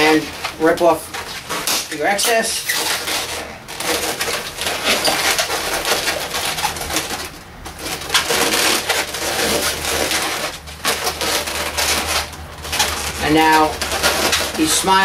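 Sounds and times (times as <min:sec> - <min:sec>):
balloons squeaking and rubbing: 0:00.0 - 0:15.0.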